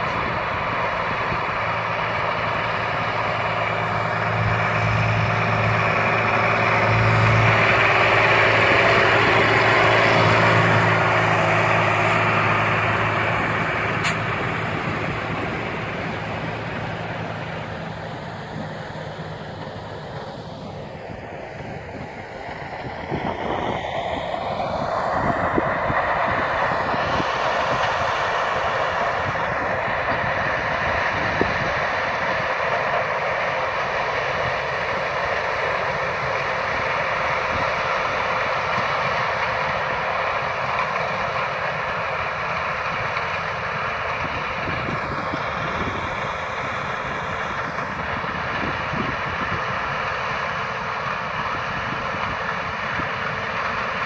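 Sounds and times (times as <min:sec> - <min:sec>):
combine harvester mechanical drone: 0:00.0 - 0:54.0.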